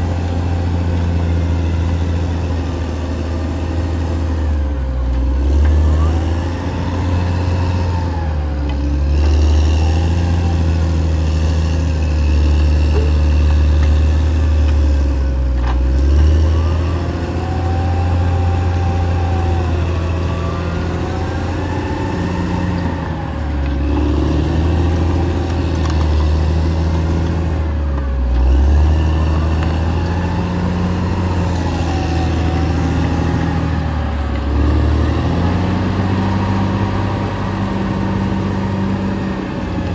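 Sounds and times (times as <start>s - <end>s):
bulldozer diesel engine rumbling: 0.0s - 39.9s.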